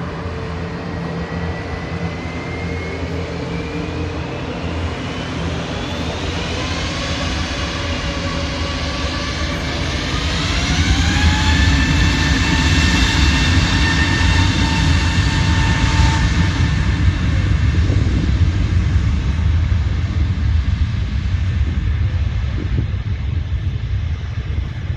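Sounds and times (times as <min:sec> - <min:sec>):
deep jet engine rumble: 0:00.0 - 0:24.9
jet engine whine: 0:00.0 - 0:24.9.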